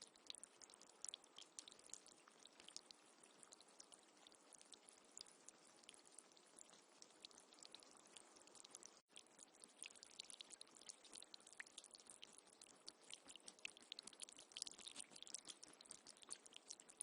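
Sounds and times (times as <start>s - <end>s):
faint trickling and dripping water: 0.0s - 17.0s.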